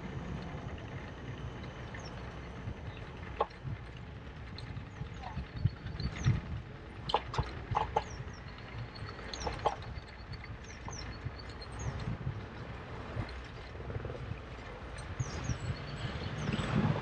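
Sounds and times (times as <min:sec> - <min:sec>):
low rumble of road and wind: 0:00.0 - 0:17.0.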